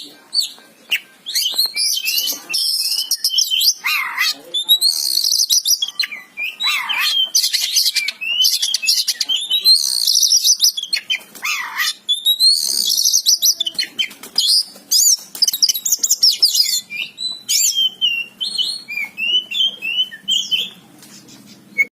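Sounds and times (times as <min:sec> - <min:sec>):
songbird singing: 0:00.0 - 0:21.9.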